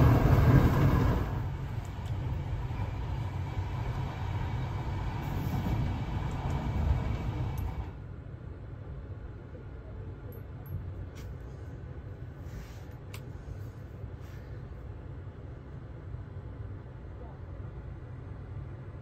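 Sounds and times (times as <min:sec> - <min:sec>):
train rumbling on rails: 0:00.0 - 0:17.2.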